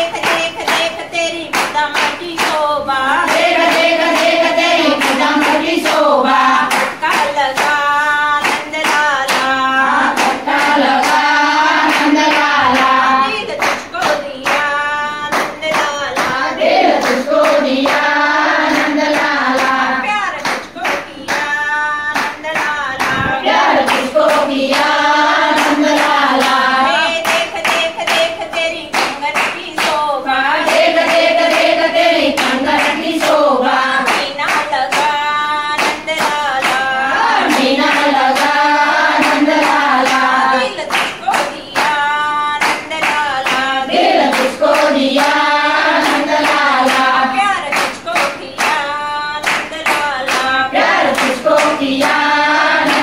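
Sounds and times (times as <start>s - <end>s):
hands clapping a steady beat: 0.0s - 53.0s
women singing together: 0.0s - 53.0s.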